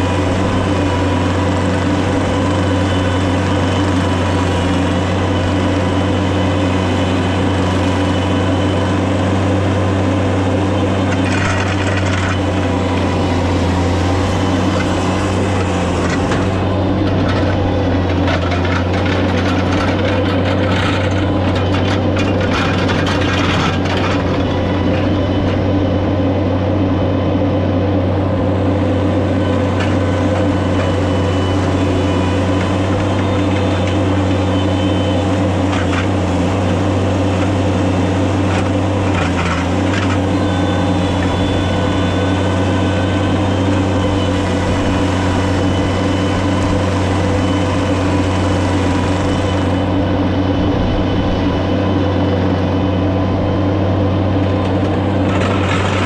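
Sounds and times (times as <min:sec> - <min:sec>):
wood chipper engine running: 0:00.0 - 0:56.0.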